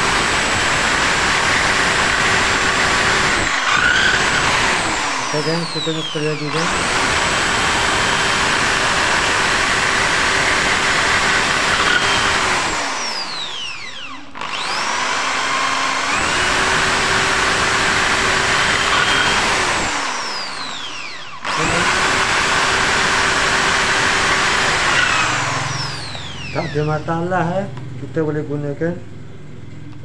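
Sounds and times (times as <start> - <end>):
impact drill boring into concrete: 0.0 - 27.3
drill motor spinning down: 0.0 - 28.4.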